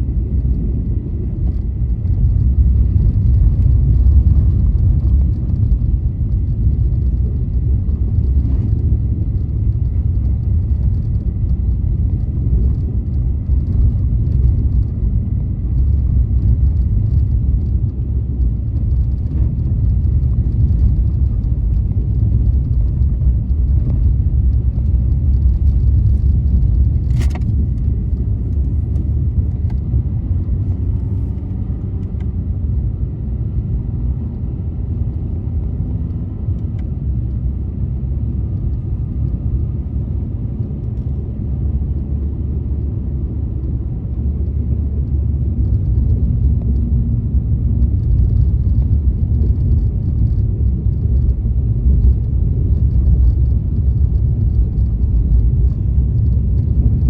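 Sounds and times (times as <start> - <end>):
engine hum: 0.0 - 57.0
tyre and road noise: 0.0 - 57.0.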